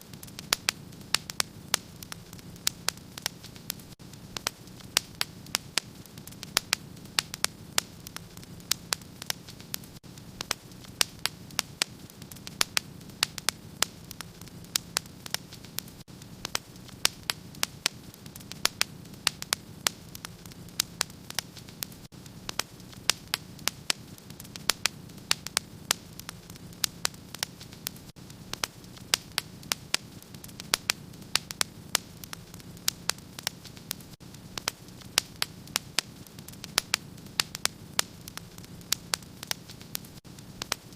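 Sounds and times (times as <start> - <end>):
wood fire crackling in fireplace: 0.0 - 40.9.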